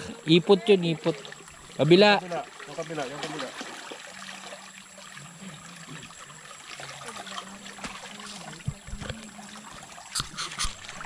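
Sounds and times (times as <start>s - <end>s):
water trickling in a ditch: 0.1s - 11.0s
small water splashes: 0.6s - 11.0s.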